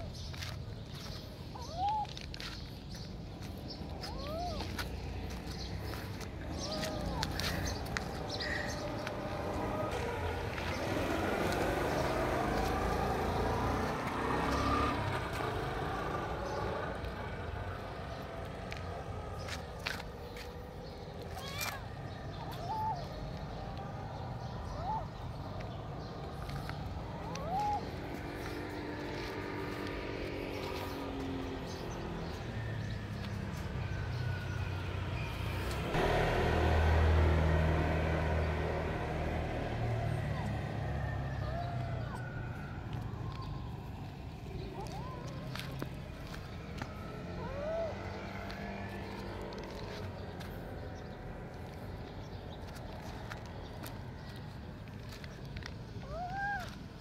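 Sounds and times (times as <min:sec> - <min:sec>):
low outdoor rumble: 0:00.0 - 0:57.0
traffic engine drone: 0:00.0 - 0:57.0.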